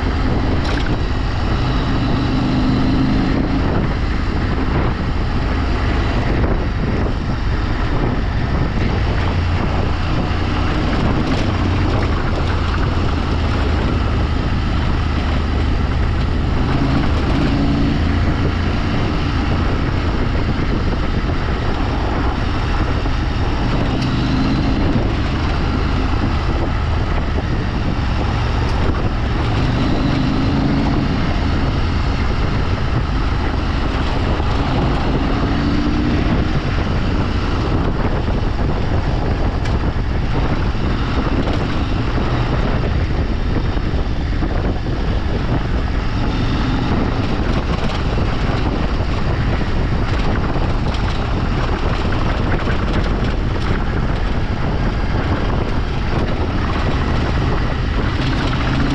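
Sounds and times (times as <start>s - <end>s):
vehicle engine running: 0.0s - 58.9s
wind noise on microphone: 0.0s - 58.9s.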